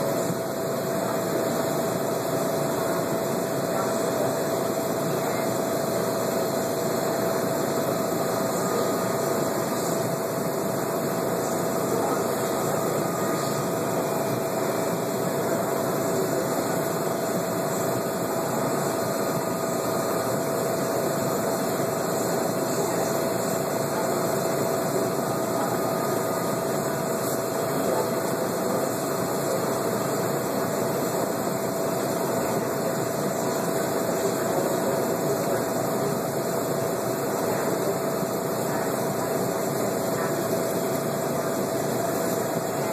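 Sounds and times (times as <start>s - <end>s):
constant mid-pitched tone: 0.0s - 42.9s
mechanical hum and hiss: 0.0s - 42.9s.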